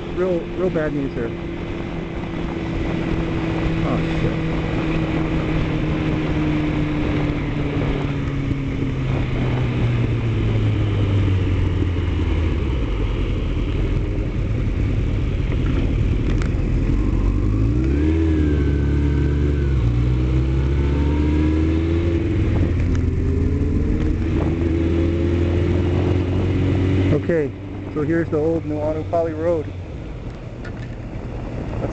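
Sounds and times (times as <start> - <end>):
road noise: 0.0 - 31.9
vehicle engine running: 0.0 - 31.9.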